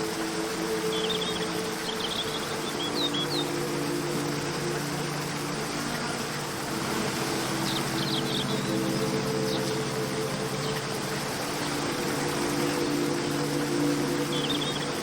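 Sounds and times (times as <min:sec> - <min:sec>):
soft ambient music pad: 0:00.0 - 0:15.0
waterfall rushing: 0:00.0 - 0:15.0.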